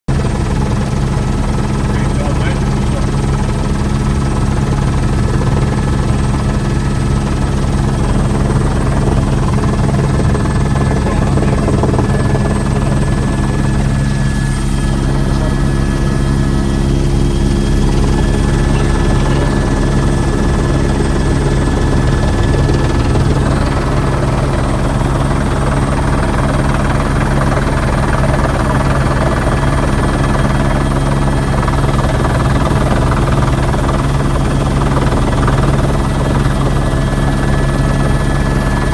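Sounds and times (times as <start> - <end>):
helicopter engine and rotors droning: 0.1 - 38.9.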